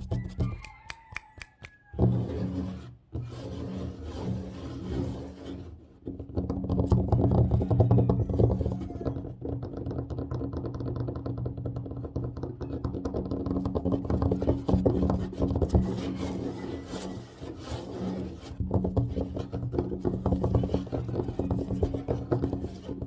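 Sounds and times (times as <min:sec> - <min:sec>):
scratching across tabletop: 0:00.0 - 0:09.2, 0:13.6 - 0:23.0.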